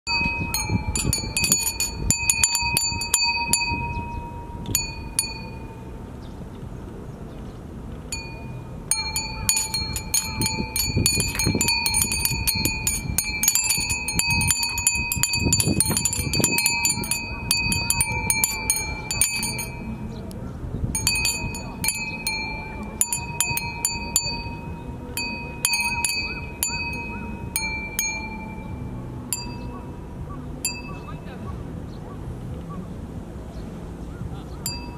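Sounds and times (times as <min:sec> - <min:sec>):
glass wind bells jingling: 0:00.0 - 0:06.0, 0:08.1 - 0:20.3, 0:20.9 - 0:31.4, 0:34.6 - 0:34.9
low gusting rumble: 0:00.1 - 0:34.9.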